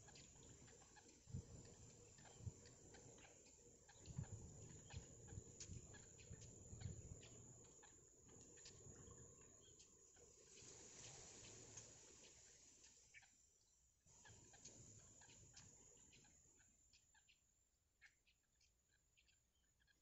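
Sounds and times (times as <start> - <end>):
faint ticks: 0.0 - 13.3, 14.2 - 17.4.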